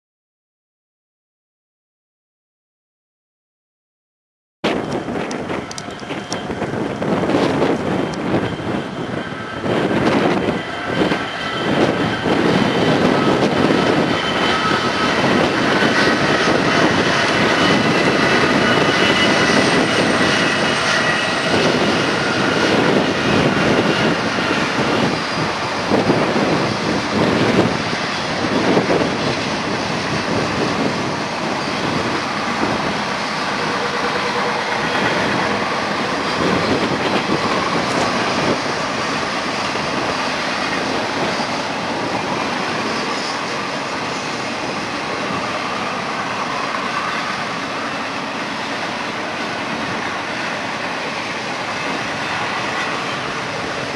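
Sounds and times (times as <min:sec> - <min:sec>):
diesel locomotives passing: 0:04.7 - 0:53.9
train wheels rolling on rails: 0:04.7 - 0:53.9.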